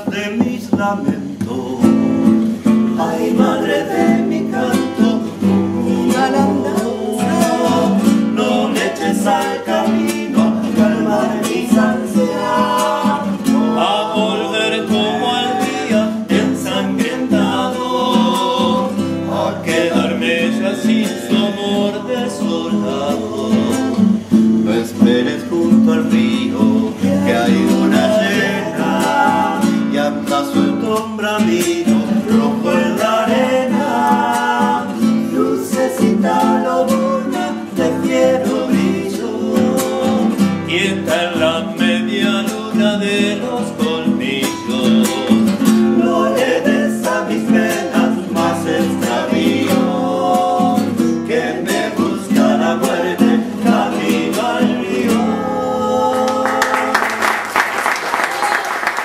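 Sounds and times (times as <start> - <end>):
classical guitar strummed: 0.0 - 56.5
men singing: 0.0 - 57.2.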